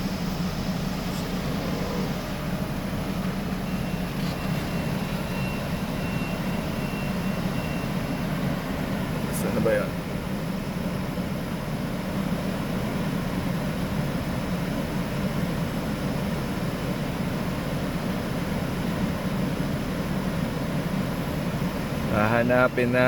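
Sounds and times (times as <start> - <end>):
car engine idling with misfire: 0.0 - 23.0.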